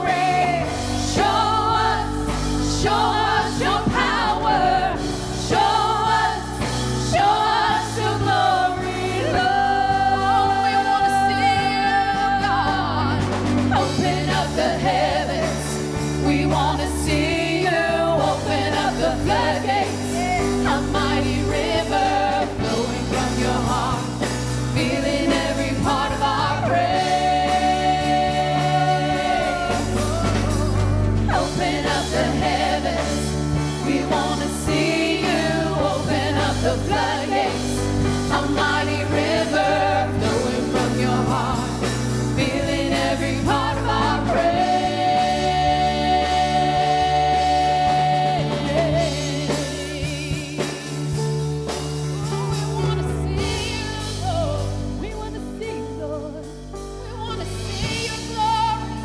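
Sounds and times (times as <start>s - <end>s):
backing band with bass: 0.0s - 59.0s
voices singing worship song: 0.0s - 59.0s.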